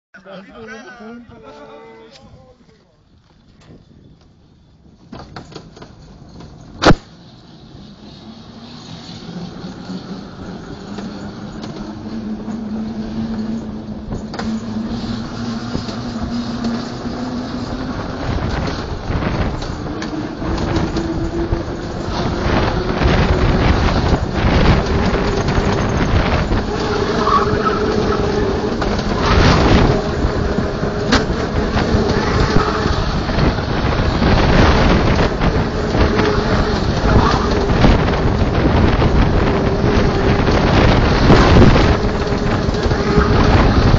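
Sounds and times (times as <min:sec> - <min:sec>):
bobsleigh rumbling down track: 0:00.2 - 0:43.9.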